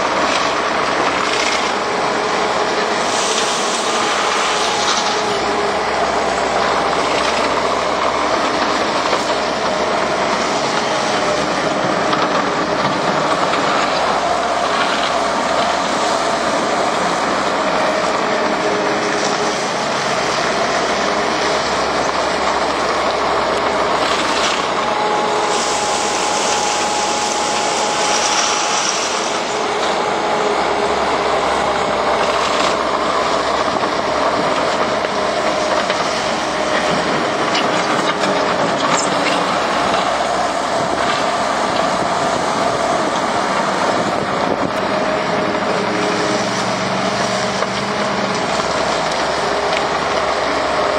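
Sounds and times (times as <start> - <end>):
diesel engine running hard: 0.0 - 50.9
hydraulic whine: 0.0 - 50.9.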